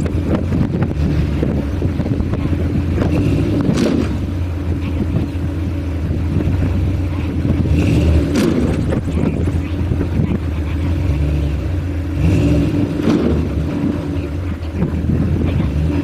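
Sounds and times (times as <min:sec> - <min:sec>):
heavy vehicle engine droning: 0:00.0 - 0:16.0.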